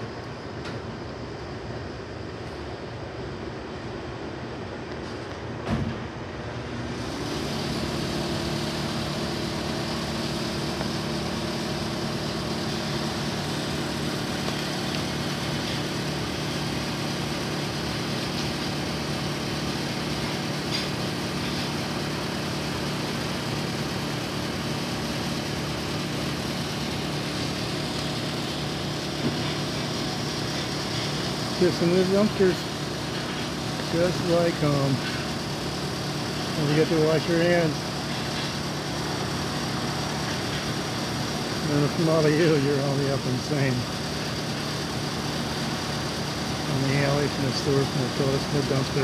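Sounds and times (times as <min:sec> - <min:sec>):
air conditioning units humming: 0:00.0 - 0:49.0.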